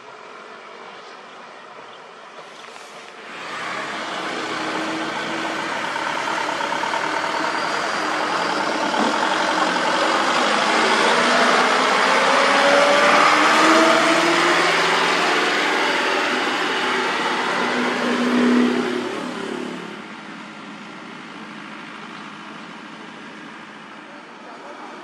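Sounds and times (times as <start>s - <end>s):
diesel truck accelerating: 2.3s - 25.0s.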